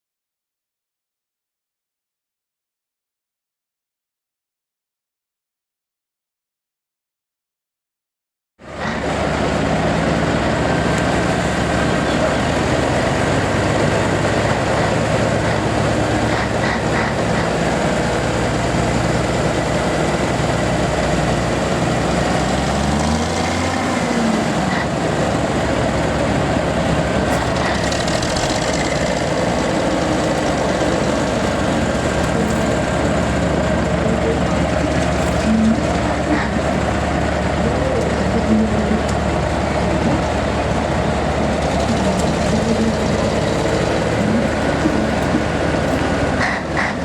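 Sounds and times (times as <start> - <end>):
heavy truck engines running: 8.6 - 47.0.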